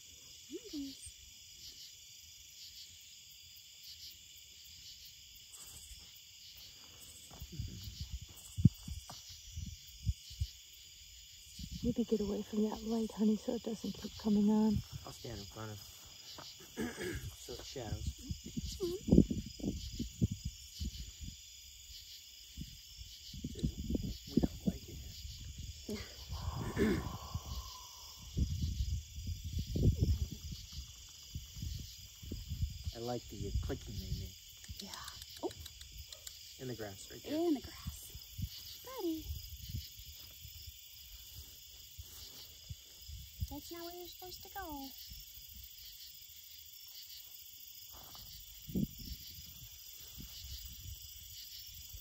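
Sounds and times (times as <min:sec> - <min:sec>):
insects chirping in pulsed trills: 0:00.0 - 0:52.0.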